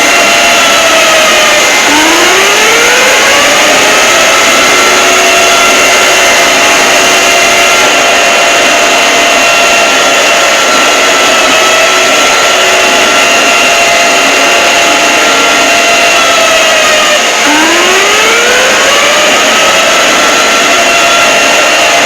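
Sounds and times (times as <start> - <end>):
distorted wavering siren tones: 0.0 - 22.0
harsh noise: 0.0 - 22.0.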